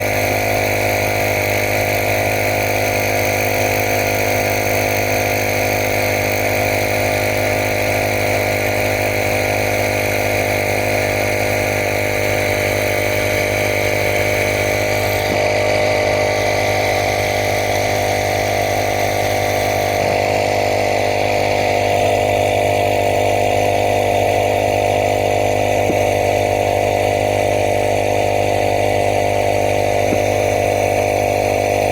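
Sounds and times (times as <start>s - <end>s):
steady machine drone: 0.0s - 31.9s.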